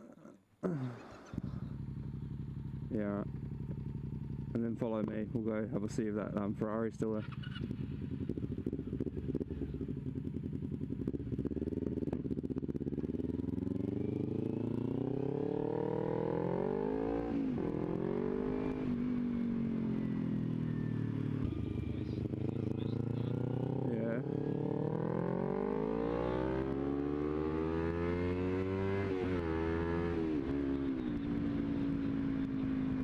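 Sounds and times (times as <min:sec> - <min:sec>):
motorcycle engine accelerating: 0:00.6 - 0:33.0.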